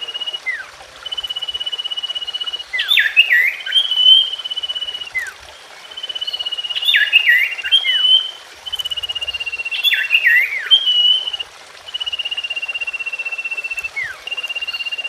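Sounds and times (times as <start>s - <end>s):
bird song with trill: 0.0s - 15.0s.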